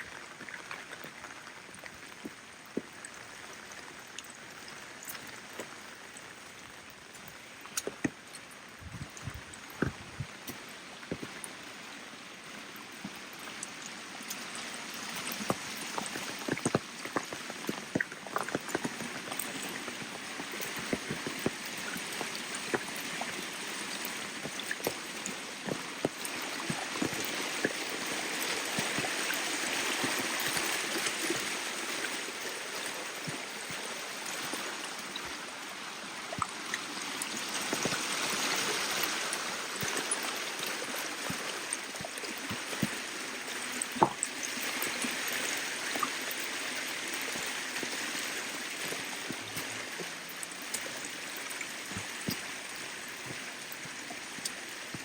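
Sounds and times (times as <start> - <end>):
rain with sharp drop taps: 0.0 - 55.0.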